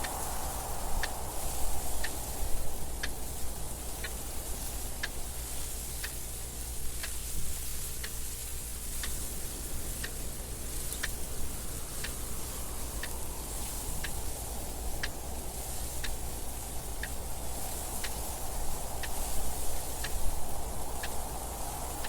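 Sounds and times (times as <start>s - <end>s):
wind noise: 0.0s - 22.0s
clock ticking: 1.0s - 22.0s.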